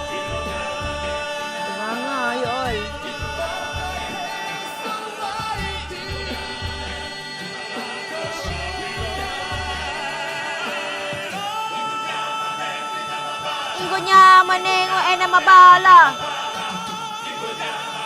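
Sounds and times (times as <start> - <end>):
musical accompaniment: 0.0 - 18.0
person singing: 0.0 - 18.0.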